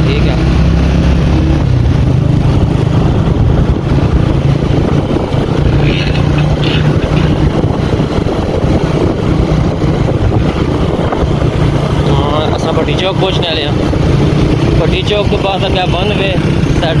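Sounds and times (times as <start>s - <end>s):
motorcycle engine running: 0.0s - 17.0s
road and air noise: 0.0s - 17.0s.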